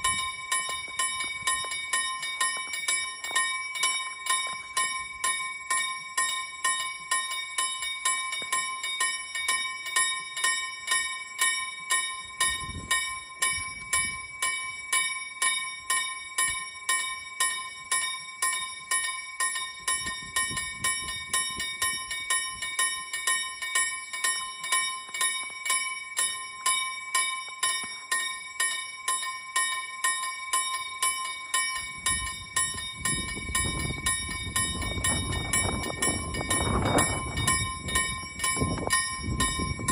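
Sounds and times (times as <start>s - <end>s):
level-crossing warning bell ringing: 0.0s - 39.9s.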